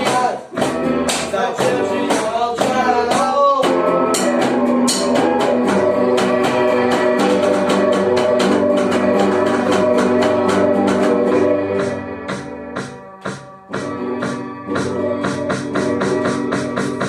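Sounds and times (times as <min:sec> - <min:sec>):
electric guitar chords: 0:00.0 - 0:17.0
steady drum beat: 0:00.0 - 0:17.0.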